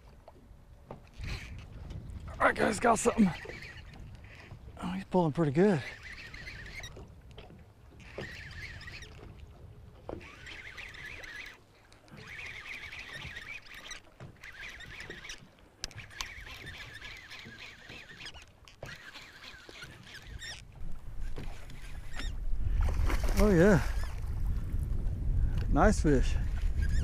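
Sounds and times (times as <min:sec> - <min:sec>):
fishing reel whirring: 0:01.0 - 0:24.8, 0:25.9 - 0:27.0.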